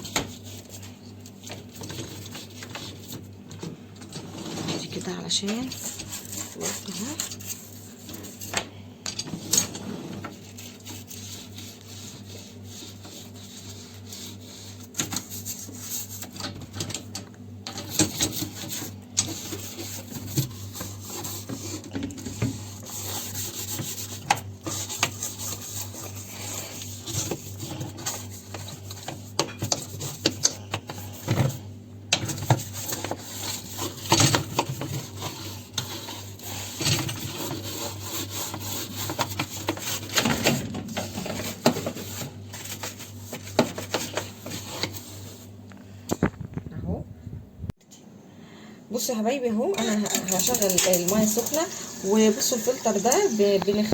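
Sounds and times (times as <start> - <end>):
hand scrubbing dishwasher tub: 0.0 - 8.5, 9.7 - 16.8, 17.8 - 31.6, 32.2 - 45.5, 49.8 - 53.9.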